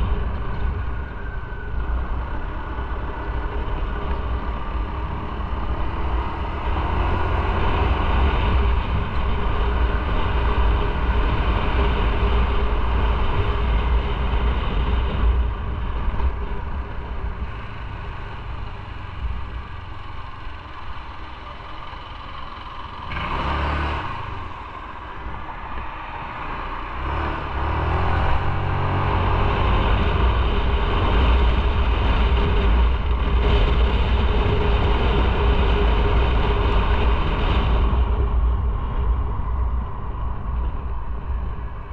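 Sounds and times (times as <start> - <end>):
wind noise on microphone: 0.0 - 20.1, 23.0 - 41.9
motorcycle engine: 0.0 - 41.9.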